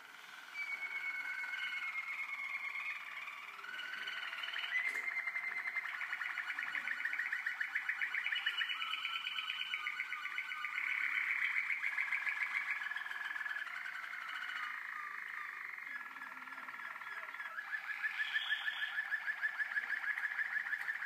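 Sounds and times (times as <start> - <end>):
canaries singing trills: 0.3 - 21.0.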